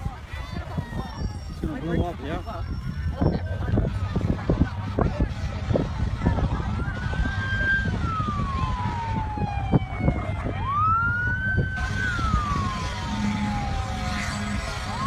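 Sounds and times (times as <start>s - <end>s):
emergency vehicle siren wailing: 0.9s - 15.0s
low rumble: 2.7s - 15.0s.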